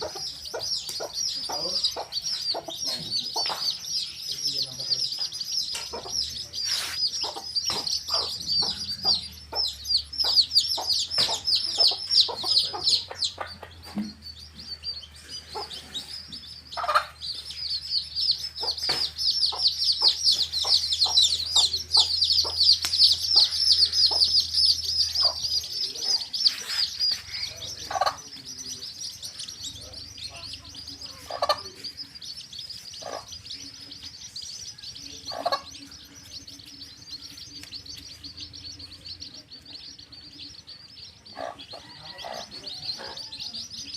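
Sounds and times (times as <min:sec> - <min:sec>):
baby chicks peeping: 0:00.0 - 0:43.9
hen clucking: 0:00.0 - 0:43.9.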